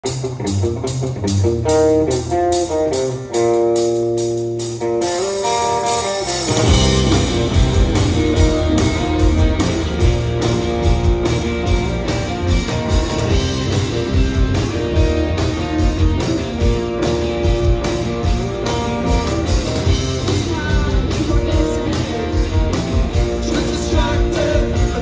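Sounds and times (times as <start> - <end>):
electric guitar picked notes: 0.0 - 25.0
rock band playing: 0.0 - 25.0.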